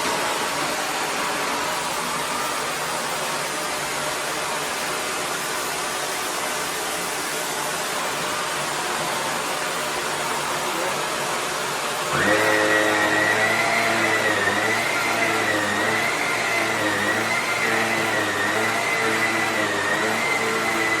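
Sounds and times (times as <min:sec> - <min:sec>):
upright vacuum running: 0:00.0 - 0:21.0.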